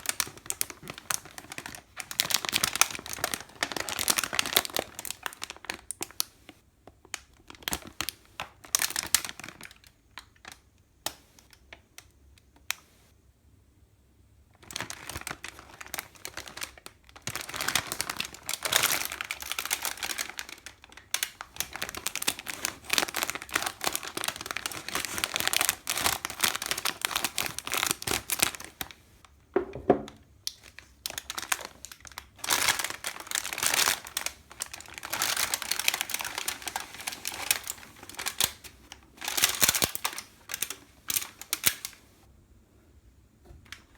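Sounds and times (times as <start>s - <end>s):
plastic packaging crinkling: 0.0s - 10.6s, 14.6s - 42.2s.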